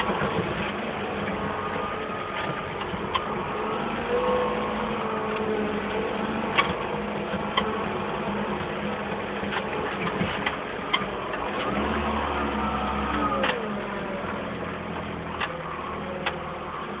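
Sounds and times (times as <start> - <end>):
forklift engine running: 0.0 - 17.0.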